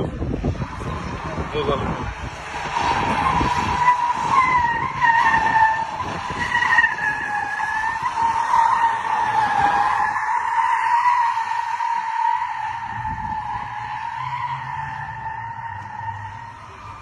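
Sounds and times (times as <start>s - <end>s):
car tyres squealing: 0.0s - 17.0s
low vehicle rumble: 0.0s - 17.0s.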